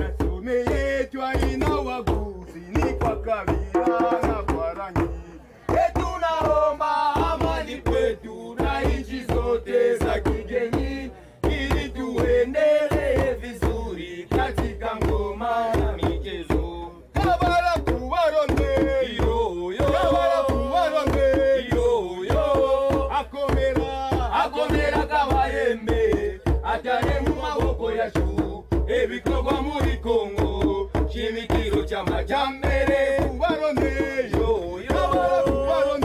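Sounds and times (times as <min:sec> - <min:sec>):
hand drums in fast rhythm: 0:00.0 - 0:36.0
young men singing together: 0:00.0 - 0:36.0.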